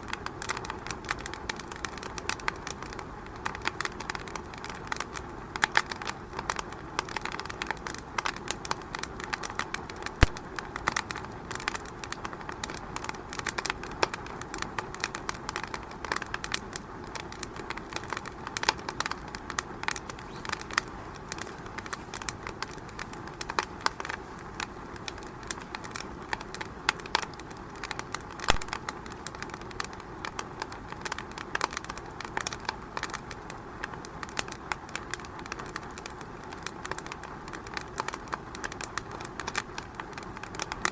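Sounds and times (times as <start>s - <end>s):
fire crackling in fireplace: 0.0s - 40.9s.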